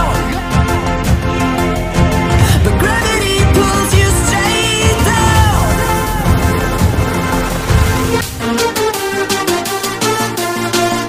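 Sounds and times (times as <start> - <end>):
pop song with steady beat: 0.0 - 11.0.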